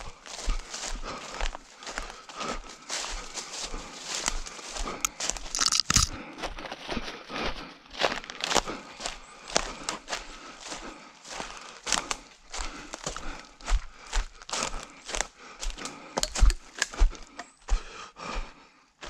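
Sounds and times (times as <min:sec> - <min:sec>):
footsteps crunching on forest floor: 0:00.0 - 0:18.7.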